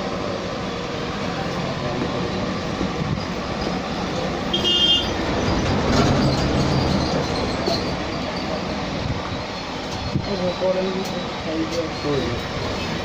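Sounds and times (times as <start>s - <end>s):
moving vehicle running noise: 0.0s - 13.0s.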